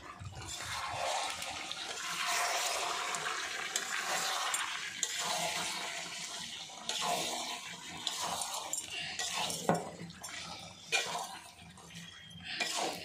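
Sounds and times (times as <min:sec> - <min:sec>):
water running and splashing: 0:00.0 - 0:11.8.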